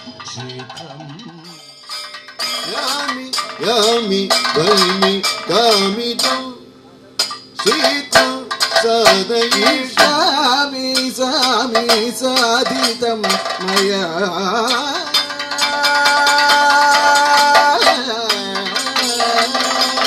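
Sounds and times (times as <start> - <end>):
metallic cymbal clashes: 0.0 - 20.0
man singing ornamented melody: 2.6 - 6.8, 7.6 - 20.0.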